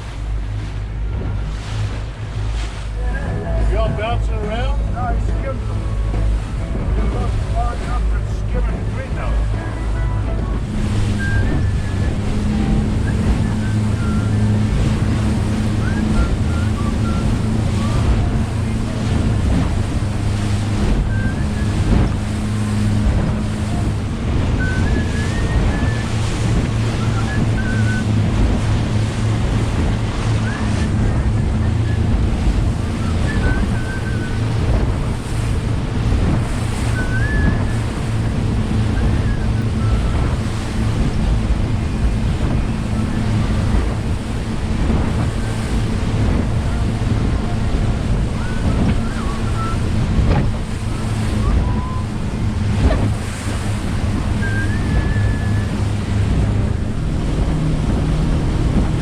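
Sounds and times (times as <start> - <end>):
outboard motors running: 0.0 - 59.0
water rushing past hull: 0.0 - 59.0
wind buffeting microphone: 0.0 - 59.0.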